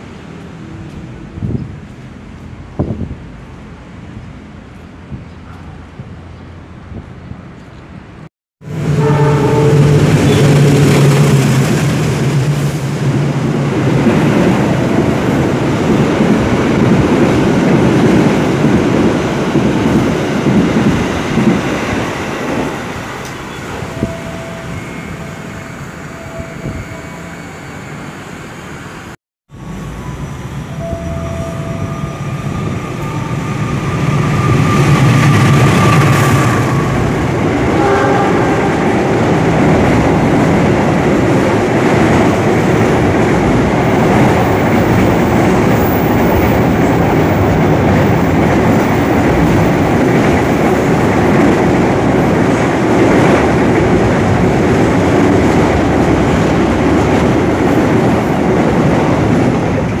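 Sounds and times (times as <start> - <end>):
train wheels rumbling on rails: 0.0 - 25.1, 27.9 - 60.0.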